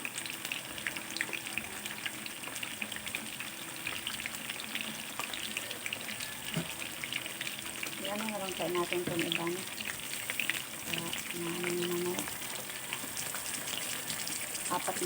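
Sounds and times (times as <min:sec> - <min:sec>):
eggplant sizzling in hot oil: 0:00.0 - 0:15.0
oil crackling and popping: 0:00.0 - 0:15.0.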